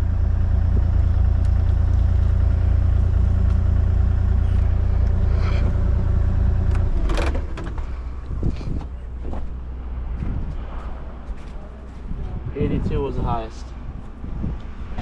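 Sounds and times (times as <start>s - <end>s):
large engine rumbling: 0.0s - 15.0s.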